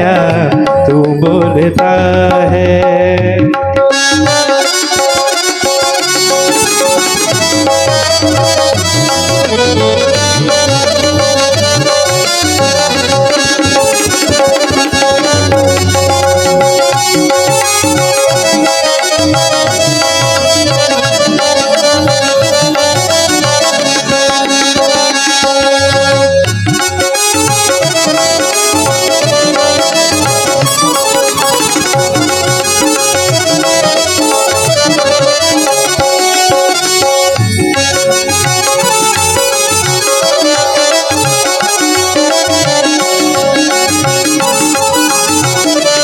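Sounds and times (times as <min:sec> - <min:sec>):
quick tabla rhythm: 0:00.0 - 0:46.0
harmonium sustained chords: 0:03.2 - 0:46.0.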